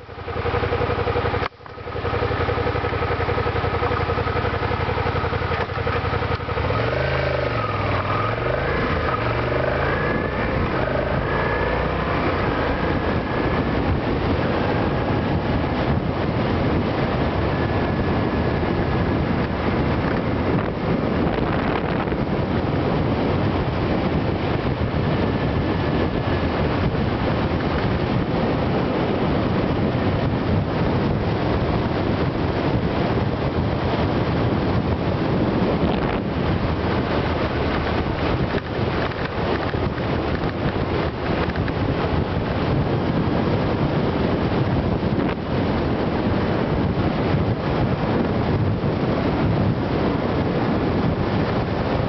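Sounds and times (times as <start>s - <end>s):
motorcycle engine running: 0.0s - 52.0s
wind rushing over microphone: 0.0s - 52.0s.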